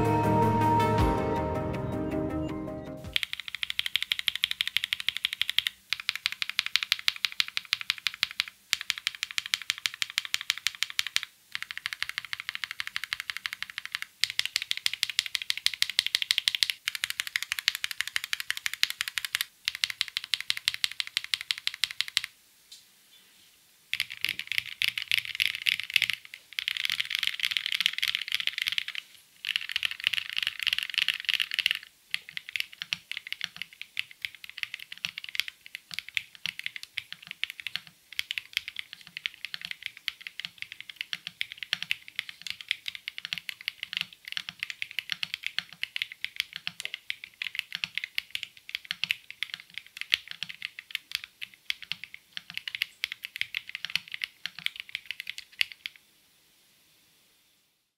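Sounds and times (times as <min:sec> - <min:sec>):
typing on a mechanical keyboard: 0:03.1 - 0:22.3, 0:23.9 - 0:56.0.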